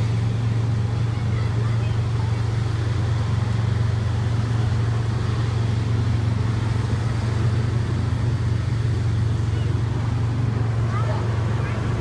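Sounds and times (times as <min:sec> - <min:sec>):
small tractor engine droning: 0:00.0 - 0:12.0.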